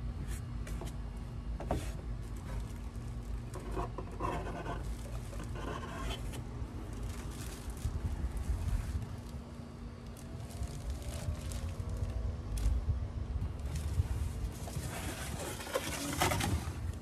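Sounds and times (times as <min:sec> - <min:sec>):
steady low hum: 0:00.0 - 0:17.0
cardboard and plastic rustling: 0:01.6 - 0:17.0.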